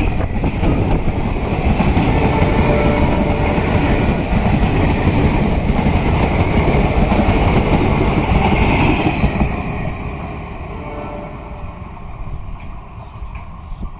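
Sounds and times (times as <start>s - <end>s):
train coaches rumbling past: 0.0s - 13.9s.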